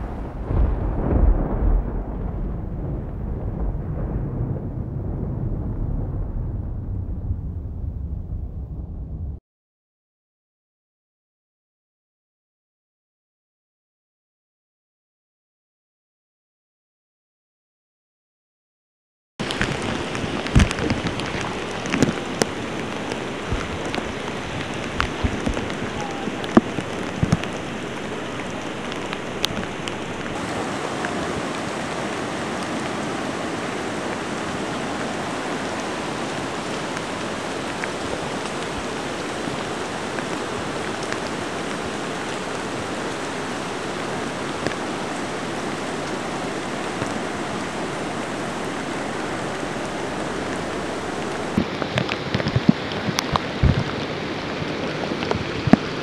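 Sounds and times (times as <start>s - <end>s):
steady rain falling: 0.0s - 9.4s, 19.4s - 56.0s.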